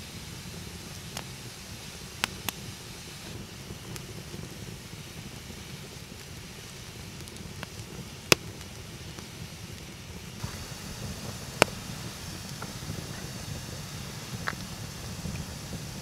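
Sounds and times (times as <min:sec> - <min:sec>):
campfire burning: 0:00.0 - 0:16.0
fire crackling: 0:00.0 - 0:16.0
loud fire pops: 0:00.0 - 0:16.0.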